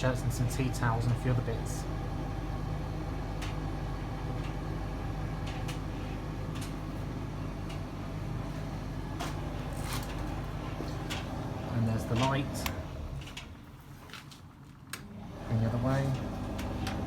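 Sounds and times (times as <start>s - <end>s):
tumble dryer humming: 0.0s - 14.0s, 14.9s - 17.0s.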